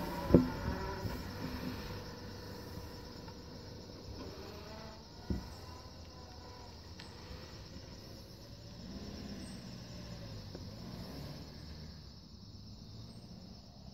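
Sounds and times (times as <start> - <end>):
car accelerating away: 0.0 - 13.9.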